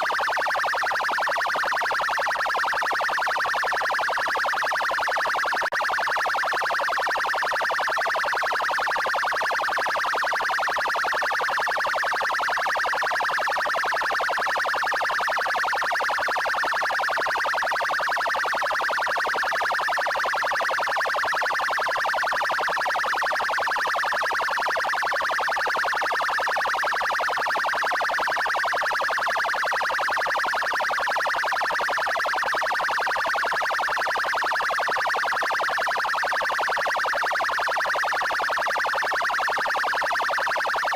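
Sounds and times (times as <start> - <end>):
police siren rapid pulsing tone: 0.0 - 40.9.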